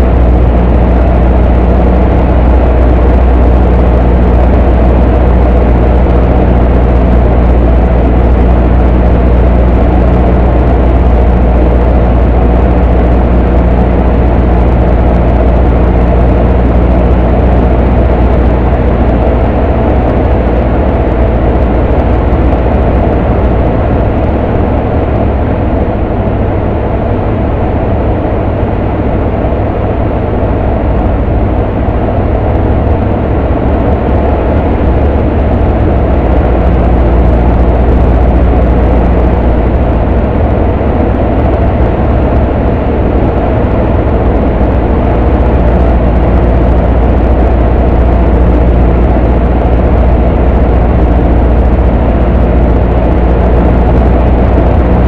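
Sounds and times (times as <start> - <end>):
airplane engine droning: 0.0 - 55.0
rushing airflow: 0.0 - 55.0.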